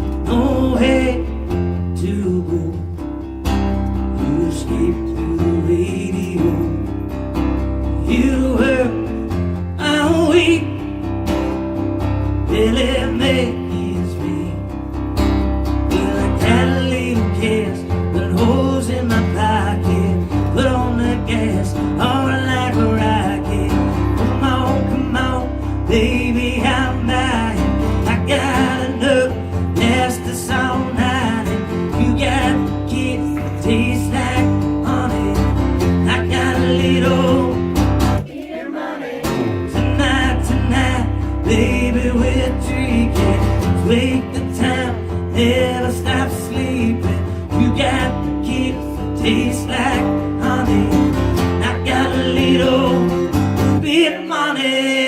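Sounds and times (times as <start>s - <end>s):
strummed acoustic guitar: 0.0s - 38.3s, 39.0s - 55.0s.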